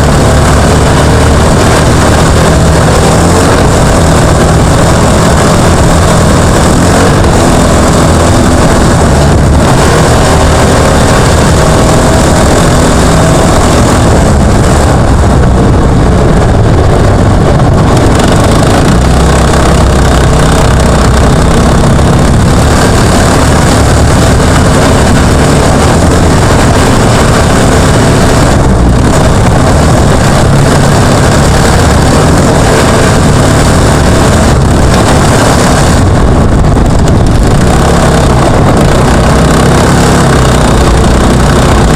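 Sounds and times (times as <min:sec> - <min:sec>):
kart engine droning: 0:00.0 - 0:41.9
wind noise: 0:00.0 - 0:41.9.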